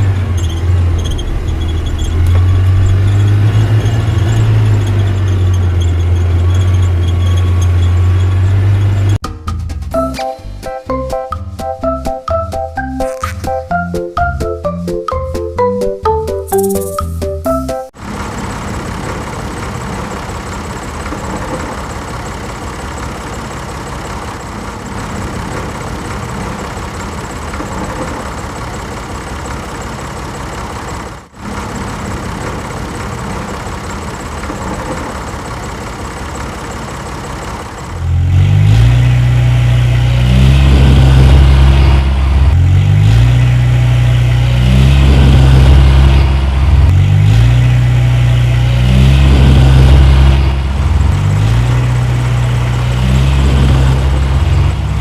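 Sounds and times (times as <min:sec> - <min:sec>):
deep engine drone: 0:00.0 - 0:29.2, 0:31.4 - 0:55.0
vehicle engines running: 0:00.0 - 0:55.0.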